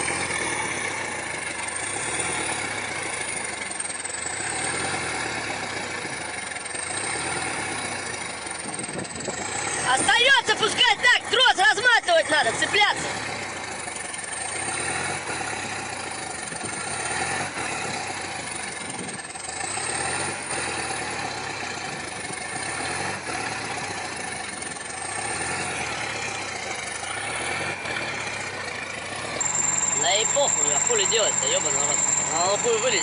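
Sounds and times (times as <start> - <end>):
large vehicle engine idling: 0.0 - 33.0.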